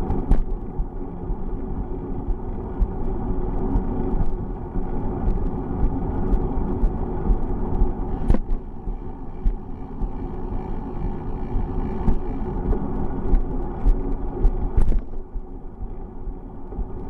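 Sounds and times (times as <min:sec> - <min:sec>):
bicycle tyres rumbling on road: 0:00.0 - 0:17.0.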